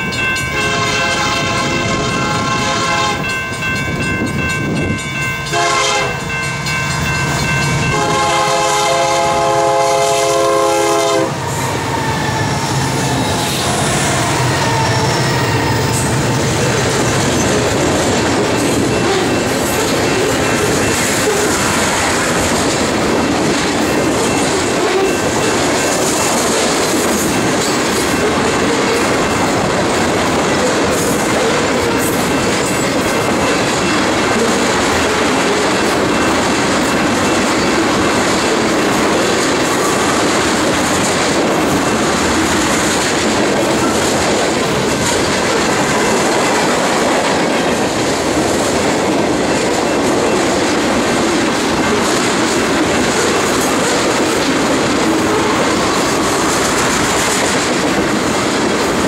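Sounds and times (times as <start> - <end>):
steel wheels rolling on rail: 0.0 - 59.0
wind buffeting microphone: 1.2 - 5.5, 10.9 - 59.0.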